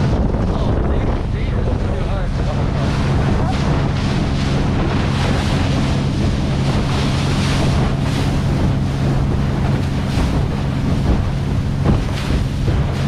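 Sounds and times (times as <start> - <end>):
boat motor running: 0.0 - 13.0
water rushing past hull: 0.0 - 13.0
wind noise on microphone: 0.0 - 13.0.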